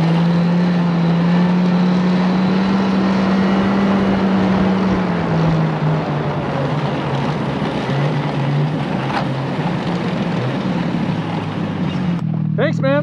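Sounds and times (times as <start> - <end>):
snowmobile engine running: 0.0 - 13.0
snowmobile track noise: 0.0 - 13.0
wind: 0.0 - 13.0.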